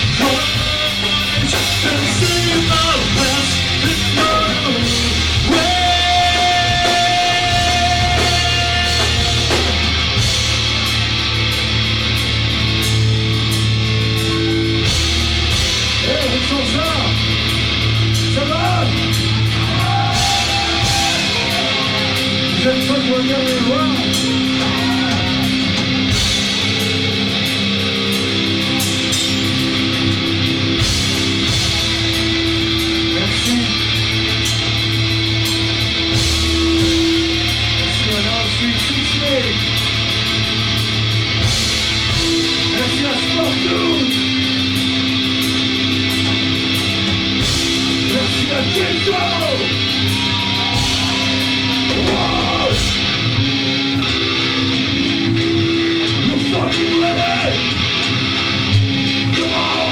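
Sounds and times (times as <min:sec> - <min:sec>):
distorted electric guitar: 0:00.0 - 0:59.9
rock band playing: 0:00.0 - 0:59.9.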